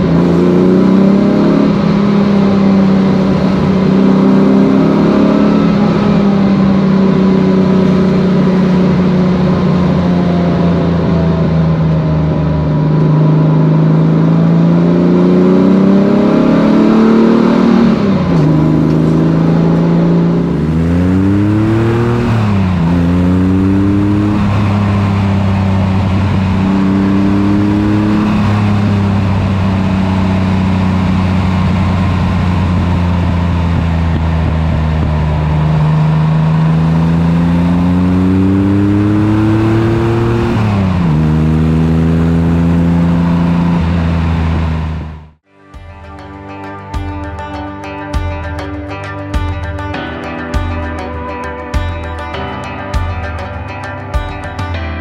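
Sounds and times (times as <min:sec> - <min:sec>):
car engine driving: 0:00.0 - 0:55.0.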